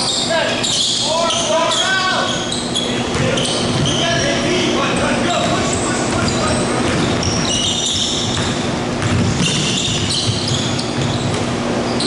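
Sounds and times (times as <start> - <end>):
sneakers squeaking on hardwood: 0.0 - 12.0
basketball dribbling: 2.3 - 12.0.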